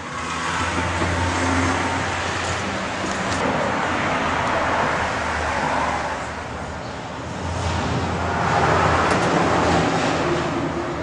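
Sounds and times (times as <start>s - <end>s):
broad rushing noise: 0.0s - 11.0s.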